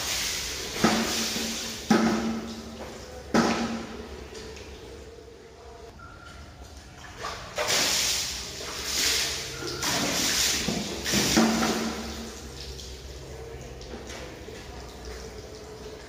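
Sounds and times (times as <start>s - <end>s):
water splashing onto concrete: 0.0s - 4.1s, 7.1s - 16.0s.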